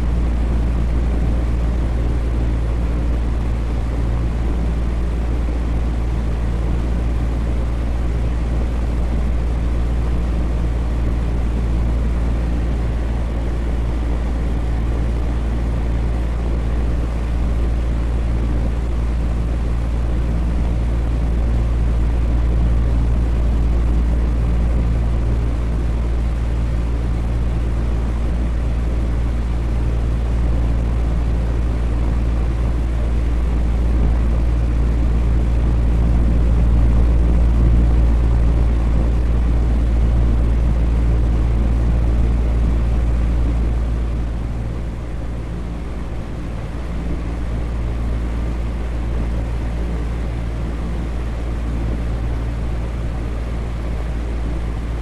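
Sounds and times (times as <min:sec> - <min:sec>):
electric fan whooshing drone: 0:00.0 - 0:55.0.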